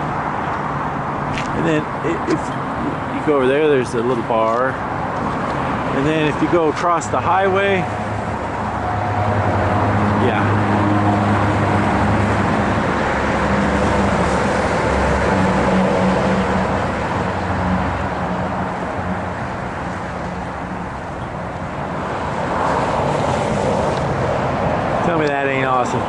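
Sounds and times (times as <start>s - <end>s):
car engine and tyre noise: 0.0s - 26.0s.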